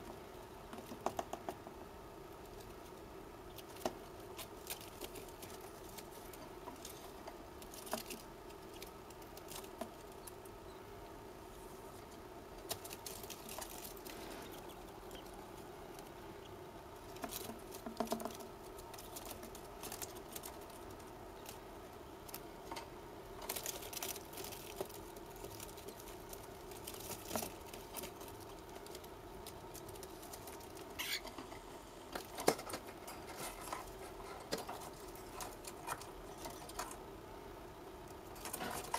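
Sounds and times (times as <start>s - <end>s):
bird chick scratching and rustling: 0.0s - 10.8s, 11.4s - 37.1s, 38.0s - 38.9s
steady low hum: 0.0s - 38.9s.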